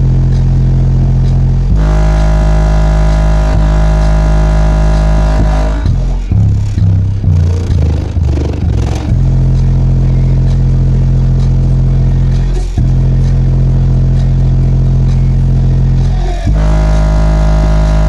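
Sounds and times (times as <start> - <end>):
bass-heavy music through subwoofer: 0.0 - 18.0.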